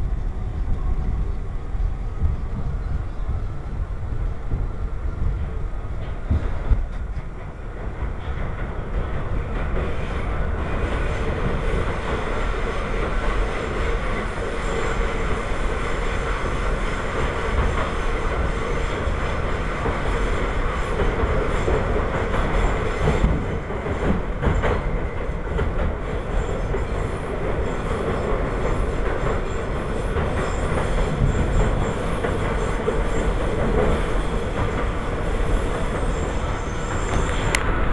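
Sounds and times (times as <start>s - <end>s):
steady train whine: 0.0s - 37.9s
subway train wheels rumbling: 0.0s - 37.9s
rail clatter: 4.5s - 37.9s.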